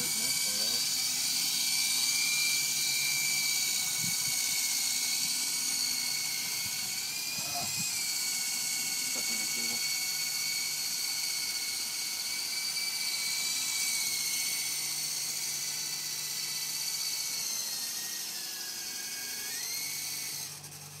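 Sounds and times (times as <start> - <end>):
toy helicopter rotors whining: 0.0 - 21.0.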